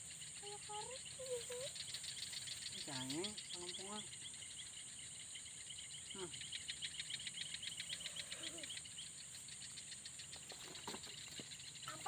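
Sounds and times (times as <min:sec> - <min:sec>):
insect rapid pulsed chirping: 0:00.0 - 0:12.0
insects buzzing: 0:00.0 - 0:12.0.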